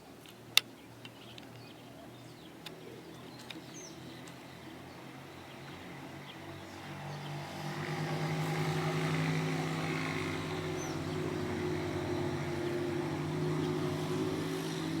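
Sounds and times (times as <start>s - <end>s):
low engine-like drone: 1.8s - 15.0s.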